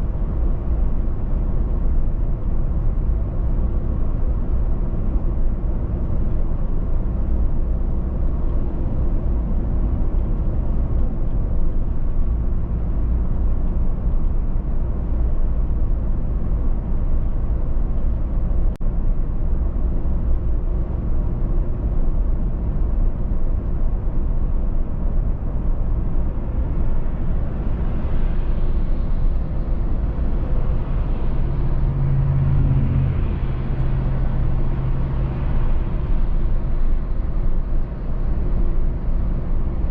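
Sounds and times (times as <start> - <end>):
car driving on highway: 0.0 - 39.9
low steady hum: 0.0 - 39.9.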